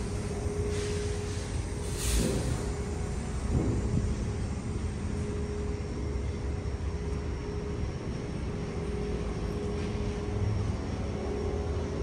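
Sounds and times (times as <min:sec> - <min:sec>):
continuous hum: 0:00.0 - 0:12.0
electric train rumbling: 0:00.0 - 0:12.0.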